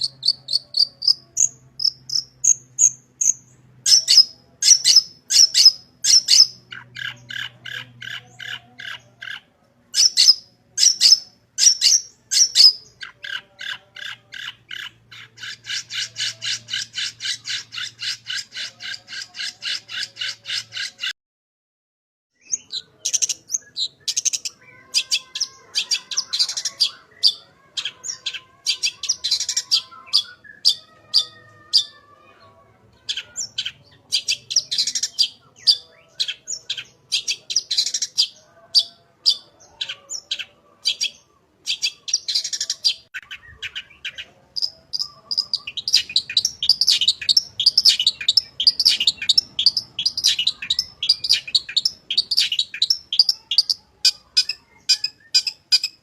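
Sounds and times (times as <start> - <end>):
bird chirping and chattering: 0.0 - 21.1, 22.4 - 32.0, 33.0 - 56.0.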